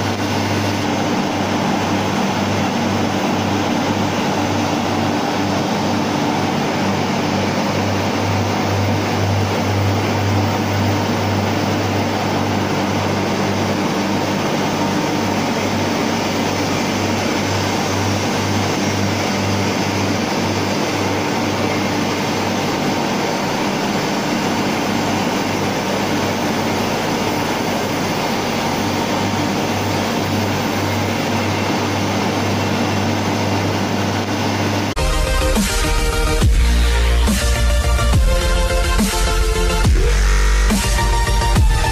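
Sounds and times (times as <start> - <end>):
rushing machine noise: 0.0 - 41.9
turbine deep hum: 0.0 - 41.9.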